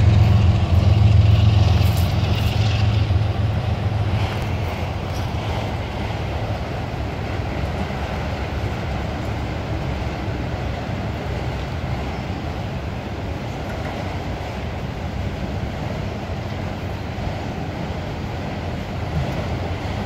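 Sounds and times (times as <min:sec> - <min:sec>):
diesel locomotive drone: 0:00.0 - 0:20.0
train wheels clattering on rails: 0:00.0 - 0:20.0.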